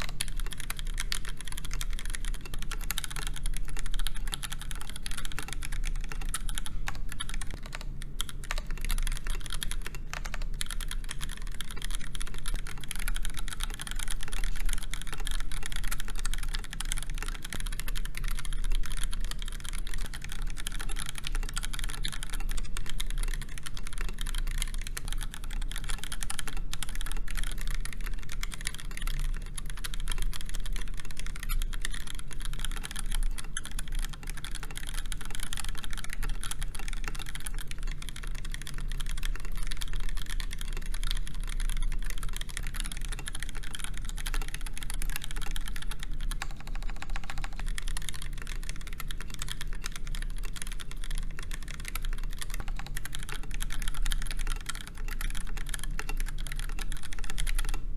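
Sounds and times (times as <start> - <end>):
fast typing on mechanical keyboard: 0.0 - 57.9
steady low hum: 0.0 - 57.9.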